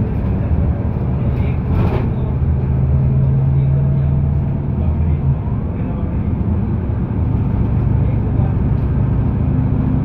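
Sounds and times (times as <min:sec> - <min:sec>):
motor vehicle engine humming: 0:00.0 - 0:10.0
road noise: 0:00.0 - 0:10.0.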